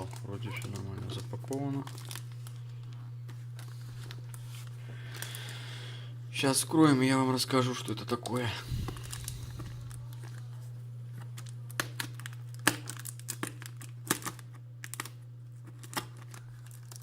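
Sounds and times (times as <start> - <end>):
packaging crinkling and tearing: 0.0 - 5.7, 8.1 - 17.0
steady low hum: 0.0 - 17.0.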